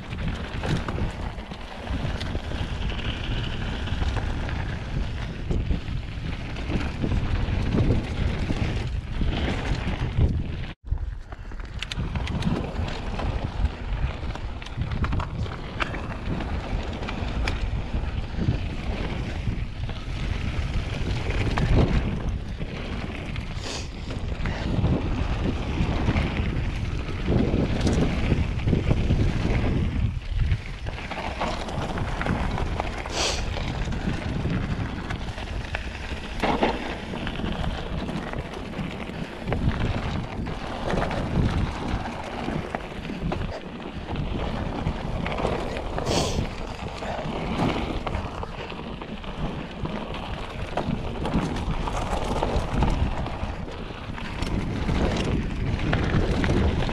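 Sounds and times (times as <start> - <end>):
tyres crunching on gravel trail: 0.0 - 56.9
wind buffeting microphone: 0.0 - 56.9.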